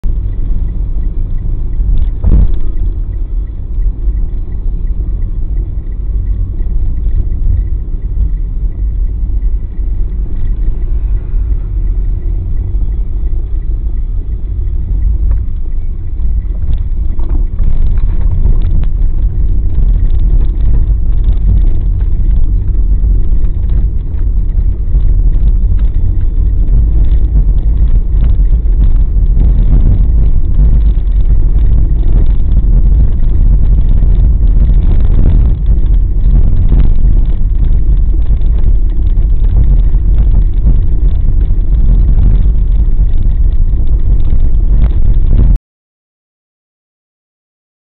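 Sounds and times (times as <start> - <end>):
vehicle rumbling: 0.0 - 45.6.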